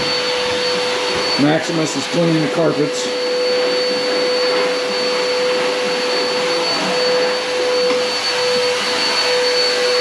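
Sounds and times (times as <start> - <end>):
carpet cleaner motor whining: 0.0 - 10.0.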